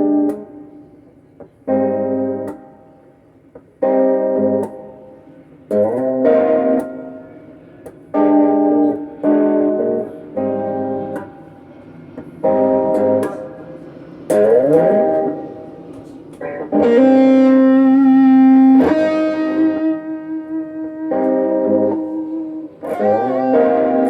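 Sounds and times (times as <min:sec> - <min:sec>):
electric guitar chords: 0:00.0 - 0:24.0.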